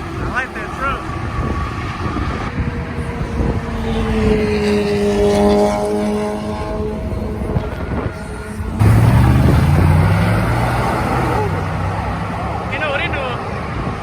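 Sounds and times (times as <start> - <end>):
car driving past: 0.0 - 14.0.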